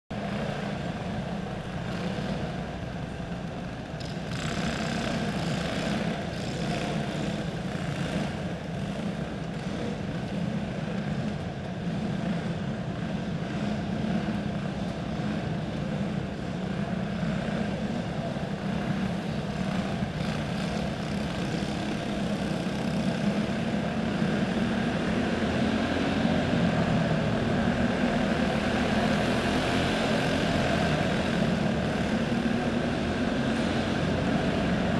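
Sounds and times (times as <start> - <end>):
kart engines buzzing: 0.1 - 34.9.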